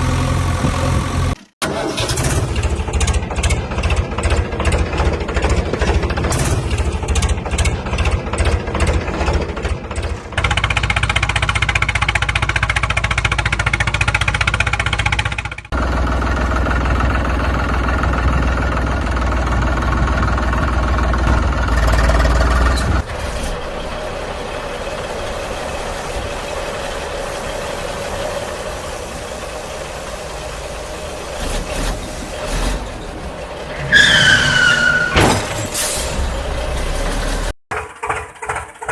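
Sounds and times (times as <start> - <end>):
heavy engine rough knocking rumble: 2.2 - 33.7.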